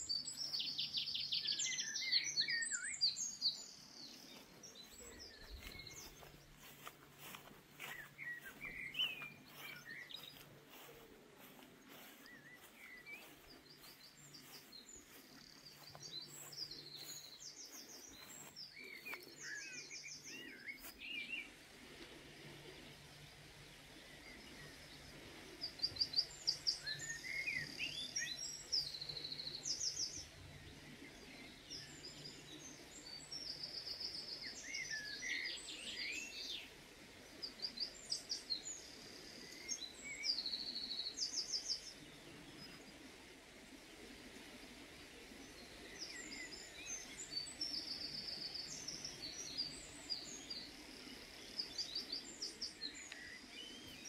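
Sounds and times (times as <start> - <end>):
songbirds singing trills: 0.0 - 21.6, 22.4 - 54.0
faint steady hum: 0.0 - 54.0.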